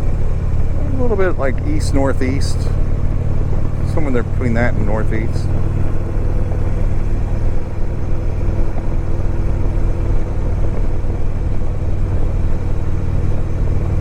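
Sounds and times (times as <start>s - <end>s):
motorcycle engine cruising: 0.0s - 14.0s
road and wind noise: 0.0s - 14.0s.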